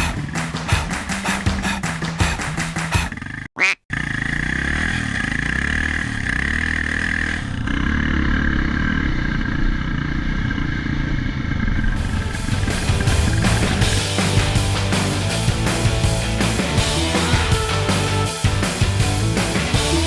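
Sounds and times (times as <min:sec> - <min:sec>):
quad bike engine running: 0:01.6 - 0:20.0.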